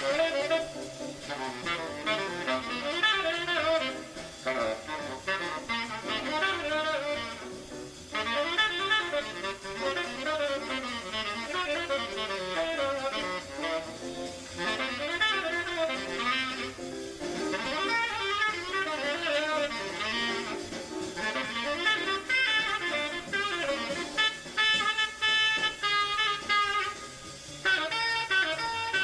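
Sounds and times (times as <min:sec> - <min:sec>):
jazz rhythm section: 0:00.0 - 0:29.0
tenor saxophone playing bebop: 0:00.0 - 0:29.0.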